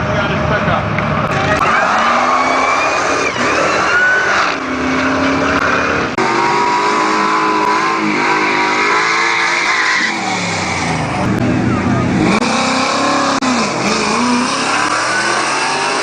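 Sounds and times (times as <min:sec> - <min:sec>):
supercharged engine accelerating: 0:00.0 - 0:16.0.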